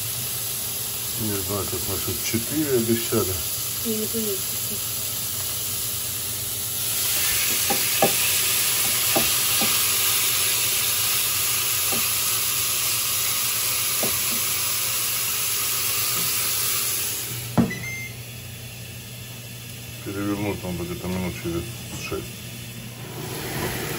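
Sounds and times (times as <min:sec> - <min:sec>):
food sizzling on a grill: 0:00.0 - 0:23.9.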